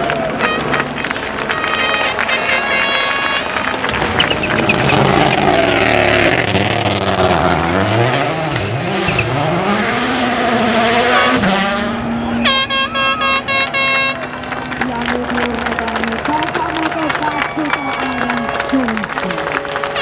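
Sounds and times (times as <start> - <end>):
horn blasts: 0.0 - 20.0
rally car engine revving: 0.0 - 20.0.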